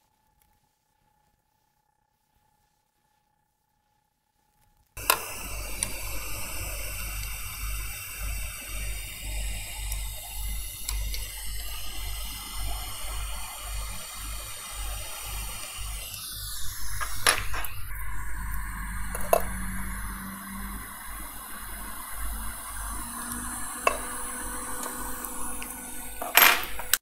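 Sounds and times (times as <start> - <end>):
hot air gun blowing: 5.0 - 26.8.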